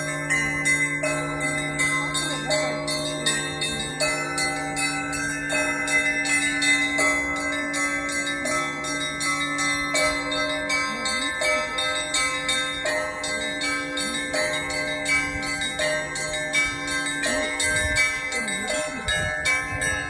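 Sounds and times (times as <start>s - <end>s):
low steady bell tone: 0.0s - 20.0s
middle bells repeating figure: 0.0s - 20.0s
small bells chiming rapidly: 0.0s - 20.0s.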